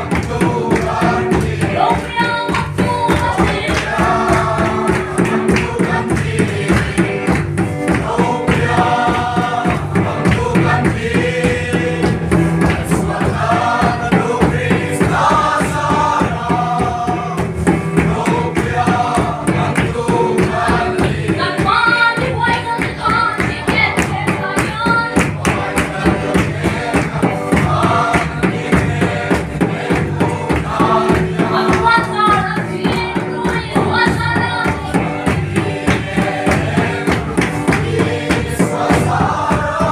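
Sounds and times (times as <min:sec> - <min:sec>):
group singing a hymn: 0:00.0 - 0:39.9
steady beat: 0:00.0 - 0:39.9.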